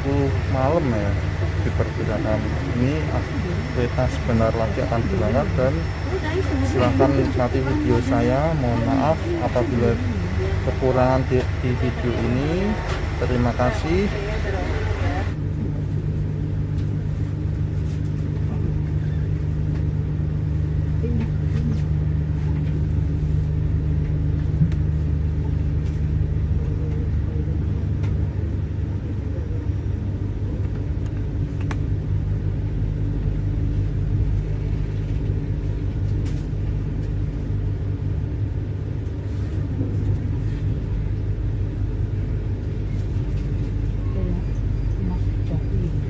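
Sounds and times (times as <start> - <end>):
train carriage hum and rumble: 0.0 - 46.0.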